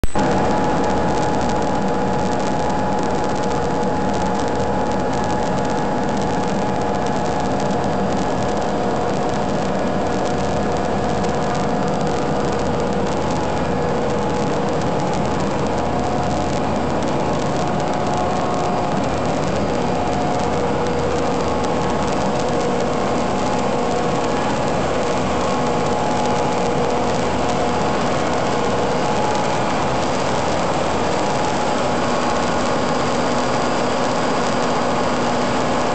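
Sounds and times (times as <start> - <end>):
refrigeration machinery drone: 0.0 - 35.9.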